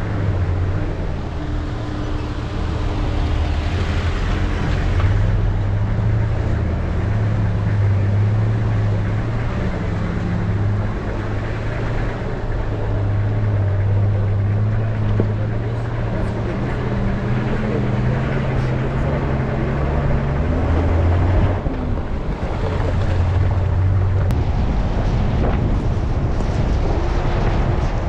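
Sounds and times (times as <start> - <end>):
car engine drone: 0.0 - 28.0
road and tyre noise: 0.0 - 28.0.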